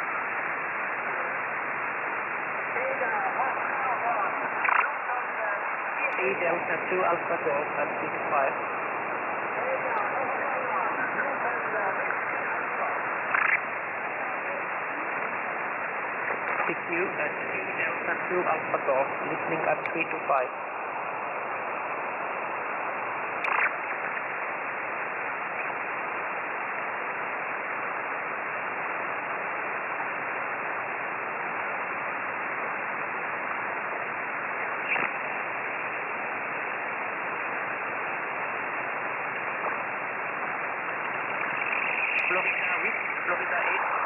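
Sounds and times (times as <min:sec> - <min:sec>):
radio crackles: 0:00.0 - 0:44.0
radio static hiss: 0:00.0 - 0:44.0.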